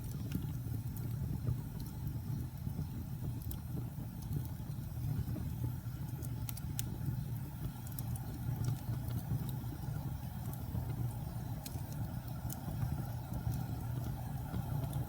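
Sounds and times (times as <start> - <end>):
fire crackles and pops: 0.0 - 15.0
fire rumble: 0.0 - 15.0.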